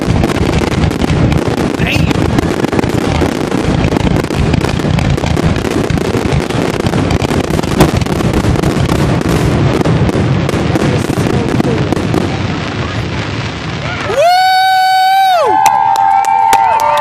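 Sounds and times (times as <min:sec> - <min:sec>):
loud firework bang: 0:00.0 - 0:15.9
fireworks bangs and crackle: 0:00.0 - 0:17.0.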